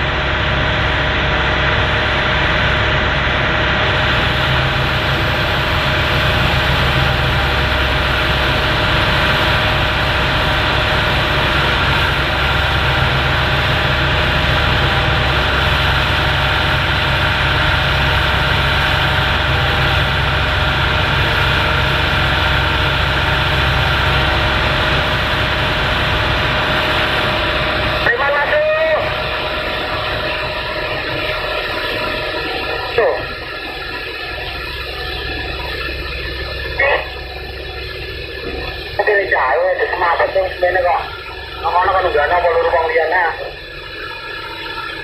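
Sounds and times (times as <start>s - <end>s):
excavator diesel engine running: 0.0s - 45.0s
steady high tone: 0.0s - 45.0s.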